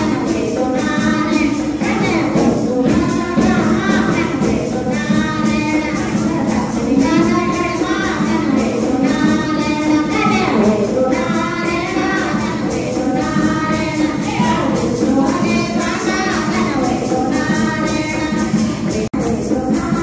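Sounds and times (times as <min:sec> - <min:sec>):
woman singing into microphone: 0:00.0 - 0:20.0
women singing devotional song: 0:00.0 - 0:20.0.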